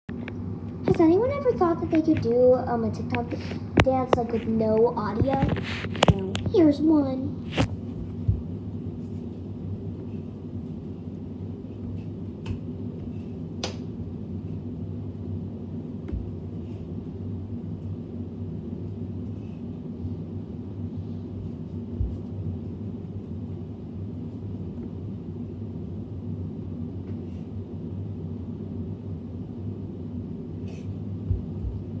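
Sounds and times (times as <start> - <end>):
low hum: 0.1 - 32.0.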